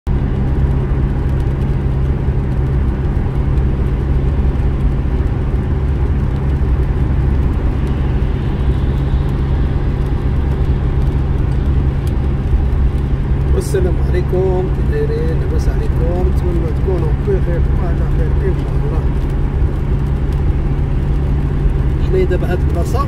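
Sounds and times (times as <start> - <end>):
car road noise at highway speed: 0.1 - 23.0.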